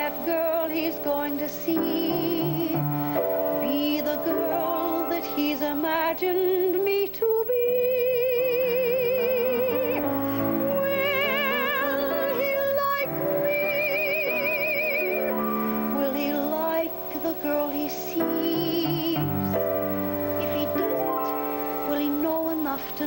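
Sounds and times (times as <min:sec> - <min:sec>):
piano accompaniment: 0:00.0 - 0:06.6, 0:09.0 - 0:23.0
woman singing a ballad: 0:00.0 - 0:10.0, 0:10.8 - 0:15.1, 0:15.9 - 0:23.0.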